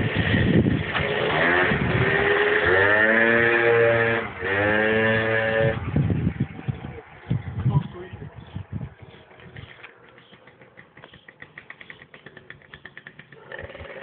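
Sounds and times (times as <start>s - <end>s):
scooter engine revving: 0.0s - 7.5s, 9.2s - 14.0s.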